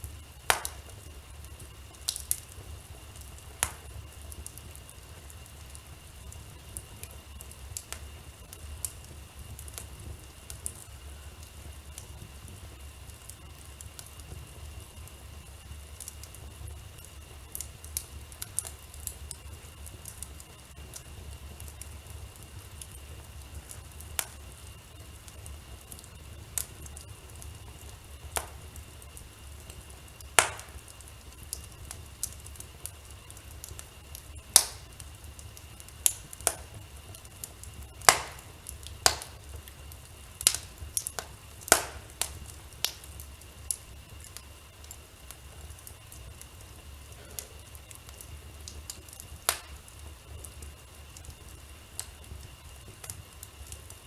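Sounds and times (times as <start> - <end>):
faint low hum: 0.0 - 54.0
wood fire crackling: 0.0 - 54.0.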